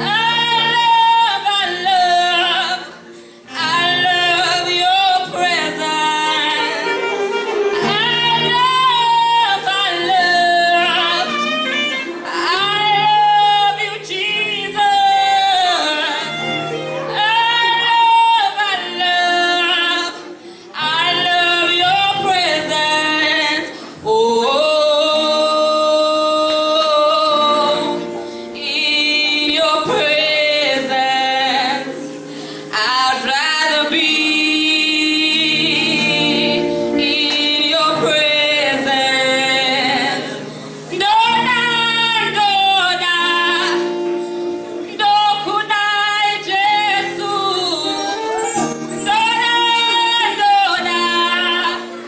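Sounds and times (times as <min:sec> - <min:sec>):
acoustic guitar: 0:00.0 - 0:52.0
woman singing: 0:00.0 - 0:52.0.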